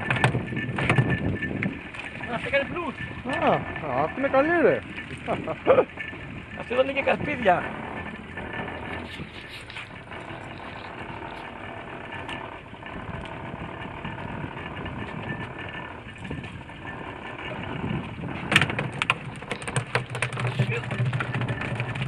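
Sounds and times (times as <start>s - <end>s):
outboard motor running: 0.0s - 22.0s
sharp knocks and rattles: 0.0s - 22.0s.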